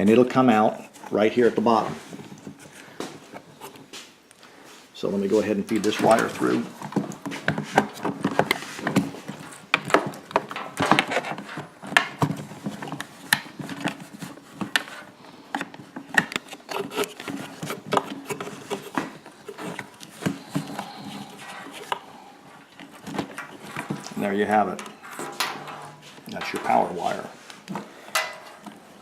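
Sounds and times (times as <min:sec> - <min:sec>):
wire rubbing through plastic: 0:05.2 - 0:29.0.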